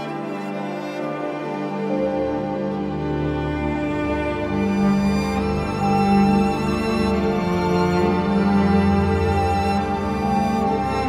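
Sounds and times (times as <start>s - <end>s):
slow sad instrumental music: 0.0s - 11.0s.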